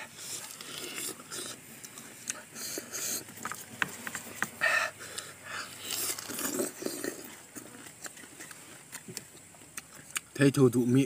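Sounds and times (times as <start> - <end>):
people chewing crisp fruit: 0.0 - 11.0.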